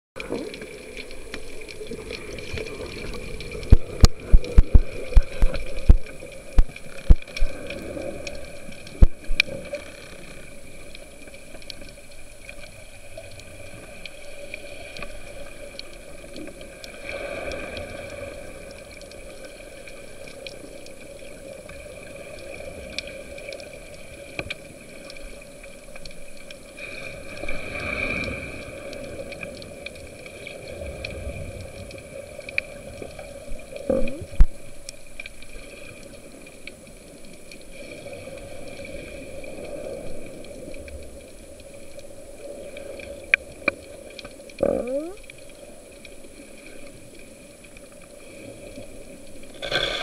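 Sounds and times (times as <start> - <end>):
muffled underwater noise: 0.2 - 49.4.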